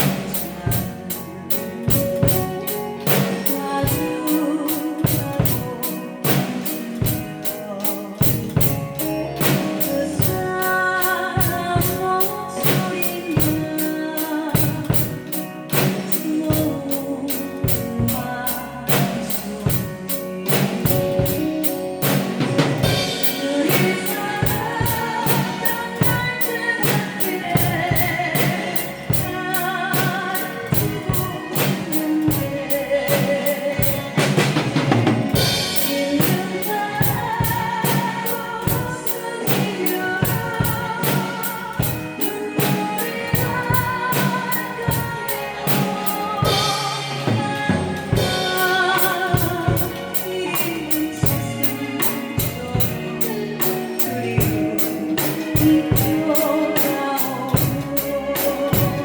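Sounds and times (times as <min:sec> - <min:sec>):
drum kit beat: 0:00.0 - 0:59.0
woman singing with vibrato: 0:00.0 - 0:59.0.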